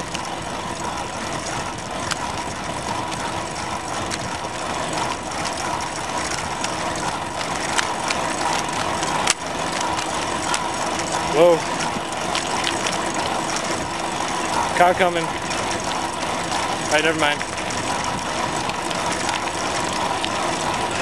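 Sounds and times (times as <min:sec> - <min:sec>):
bicycle clicks and rattles: 0:00.0 - 0:21.0
bicycle tyre and road noise: 0:00.0 - 0:21.0.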